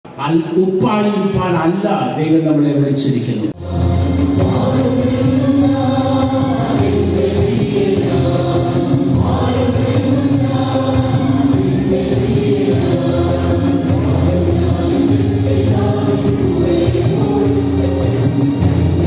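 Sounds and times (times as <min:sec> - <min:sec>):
keyboard chords: 0:03.5 - 0:19.0.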